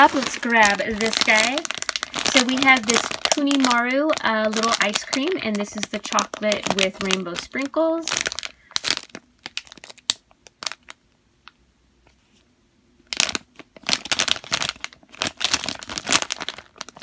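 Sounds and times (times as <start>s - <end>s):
plastic package crinkling: 0.0s - 11.0s, 13.1s - 17.0s.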